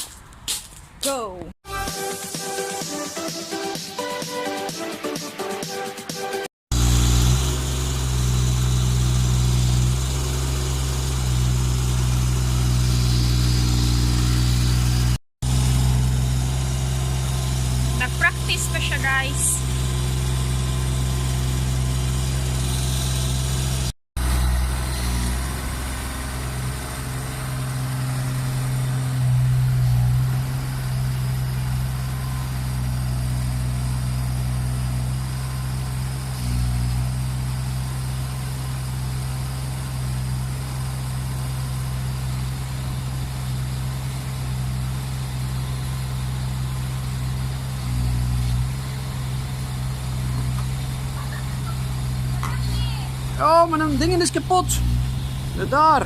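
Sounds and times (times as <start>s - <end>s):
diesel engine humming: 6.7s - 56.0s.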